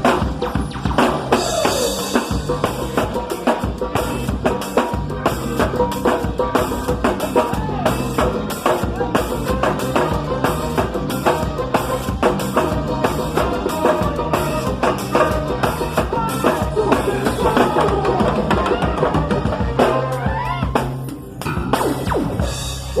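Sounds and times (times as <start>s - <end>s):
drum kit beat: 0.0s - 23.0s
live band playing: 0.0s - 23.0s.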